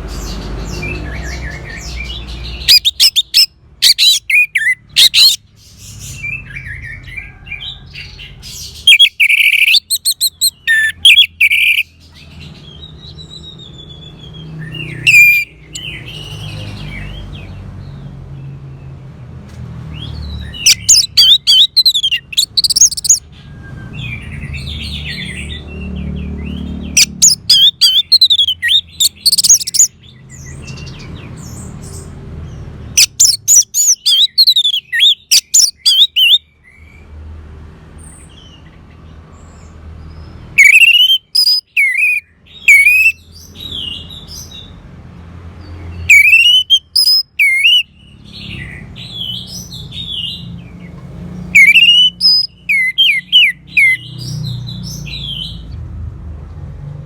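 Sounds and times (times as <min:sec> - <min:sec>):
bird singing: 0:00.0 - 0:18.8, 0:19.9 - 0:37.1, 0:38.0 - 0:44.8, 0:45.6 - 0:55.8.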